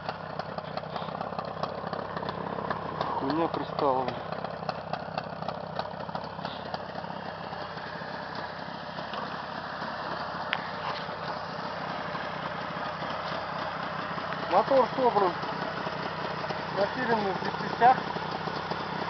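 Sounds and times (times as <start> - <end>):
two-stroke engine idling: 0.0 - 19.0.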